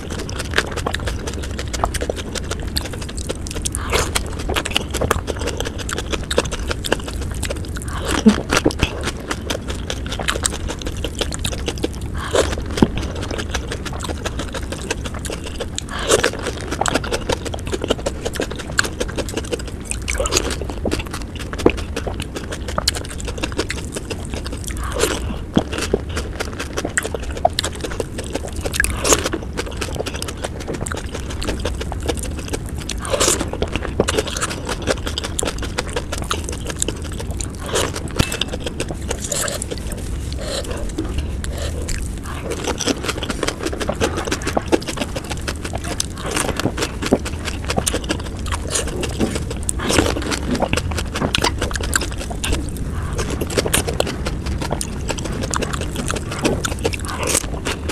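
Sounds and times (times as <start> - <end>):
puri shells crunching: 0.0 - 57.9
wet chewing mouth sounds: 0.0 - 57.9.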